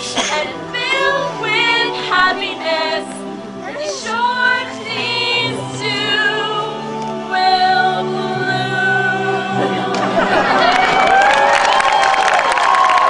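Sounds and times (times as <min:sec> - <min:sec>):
people singing: 0:00.0 - 0:10.8
musical accompaniment: 0:00.0 - 0:13.0.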